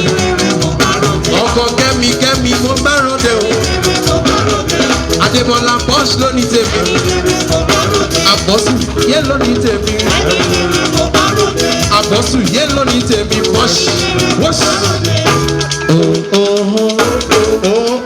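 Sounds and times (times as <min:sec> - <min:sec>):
upbeat music with singing: 0:00.0 - 0:18.0.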